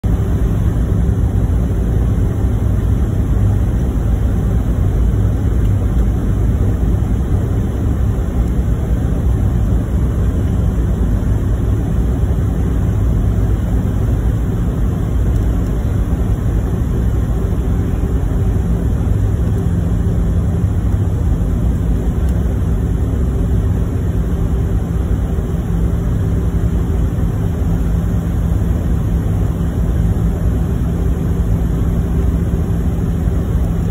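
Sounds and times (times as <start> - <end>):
constant low hum: 0.0 - 33.9
engine rumble: 0.0 - 33.9.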